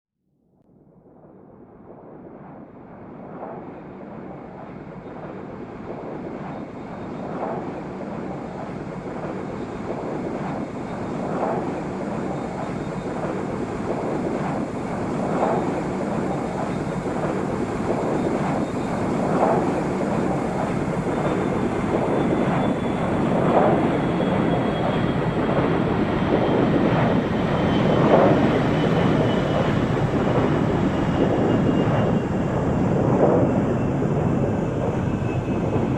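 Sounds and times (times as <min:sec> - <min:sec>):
airplane roar: 0:02.8 - 0:35.9.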